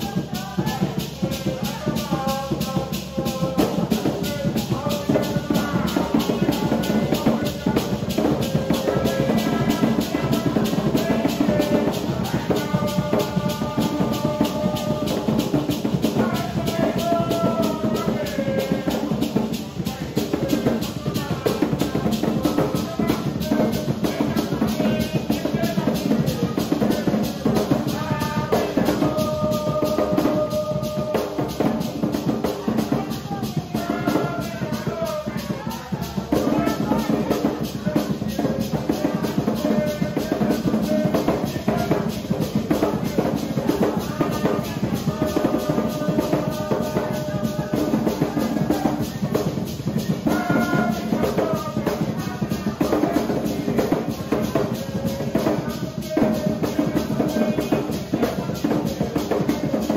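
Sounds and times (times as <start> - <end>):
group of voices singing: 0.0 - 59.9
hand drums playing fast rhythm: 0.0 - 59.9
maracas shaking: 0.0 - 59.9.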